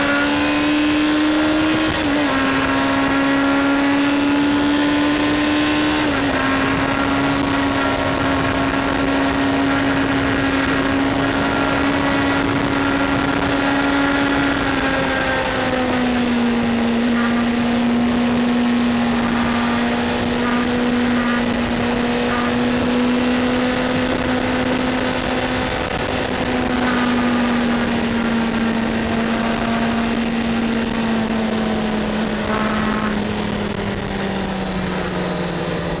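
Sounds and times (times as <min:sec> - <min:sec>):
motorcycle engine running hard: 0:00.0 - 0:36.0
wind rush: 0:00.0 - 0:36.0.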